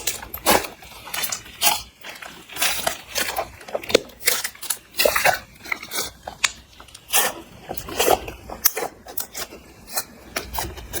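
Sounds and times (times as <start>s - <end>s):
sticky crackles and pops: 0.0s - 11.0s.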